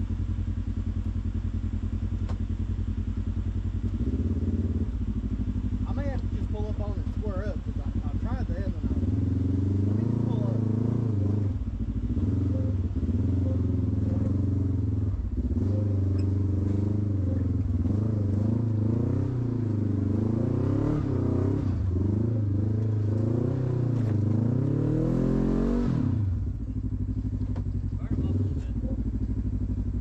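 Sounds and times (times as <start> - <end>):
off-road engine revving: 0.0 - 30.0.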